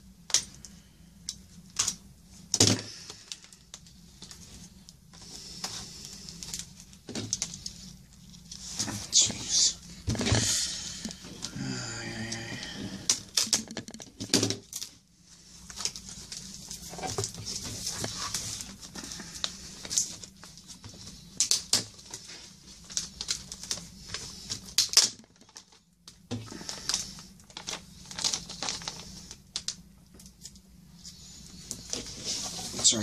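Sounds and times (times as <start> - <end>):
rustling and crinkling packaging: 0.2 - 33.0.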